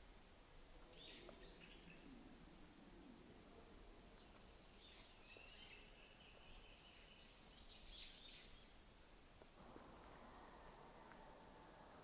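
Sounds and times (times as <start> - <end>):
soft hiss: 0.0 - 11.3.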